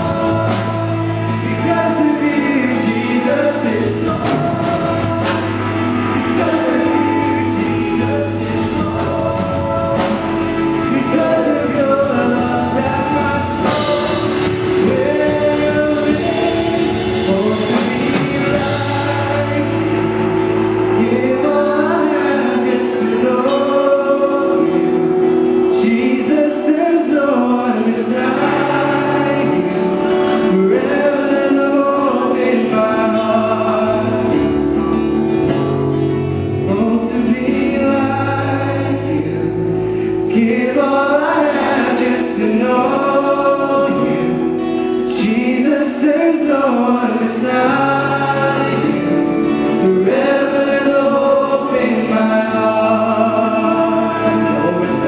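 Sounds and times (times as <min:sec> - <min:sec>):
people singing: 0:00.0 - 0:35.4, 0:36.1 - 0:55.0
acoustic guitar: 0:00.0 - 0:55.0
bass line: 0:00.0 - 0:55.0
drums: 0:00.0 - 0:55.0
electric guitars: 0:00.0 - 0:55.0.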